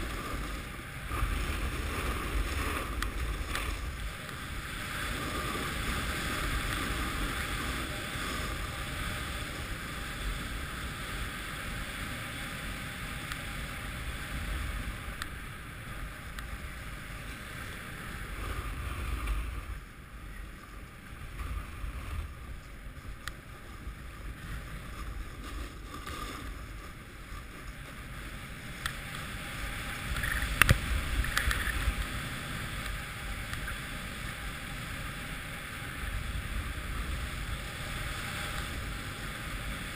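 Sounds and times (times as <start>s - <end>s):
snowboard scraping over snow: 0.0s - 39.9s
wind on microphone: 0.0s - 39.9s.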